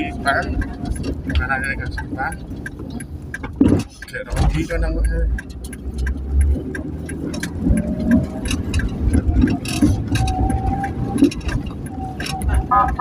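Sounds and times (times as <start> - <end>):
irregular clicks and knocks: 0.0 - 13.0
vehicle engine rumble: 0.0 - 13.0.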